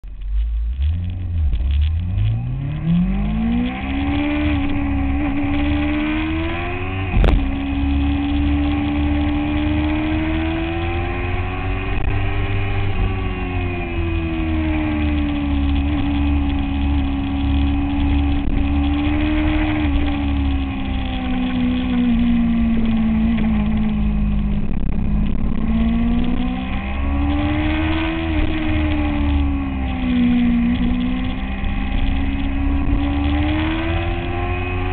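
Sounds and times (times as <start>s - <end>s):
motorcycle engine accelerating: 0.0s - 34.9s
wind rumble on microphone: 0.0s - 34.9s.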